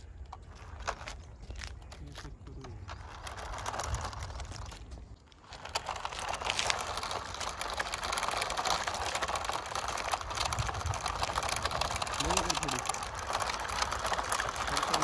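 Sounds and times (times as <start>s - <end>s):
tyres crunching over gravel: 0.0s - 15.0s
toy truck motor whirring: 2.8s - 15.0s.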